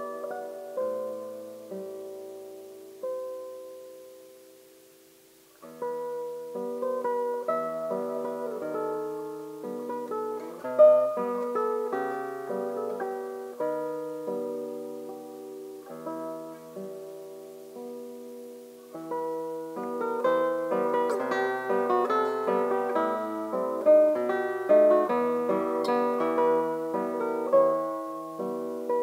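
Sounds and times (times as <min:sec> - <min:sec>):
classical guitar fingerstyle: 0:00.0 - 0:29.0.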